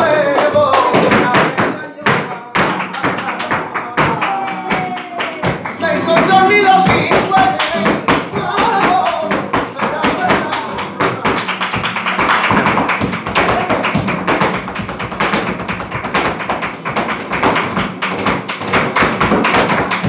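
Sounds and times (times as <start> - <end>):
flamenco guitar: 0.0 - 20.0
hand clapping: 0.0 - 20.0
percussive footwork on stage: 0.0 - 20.0.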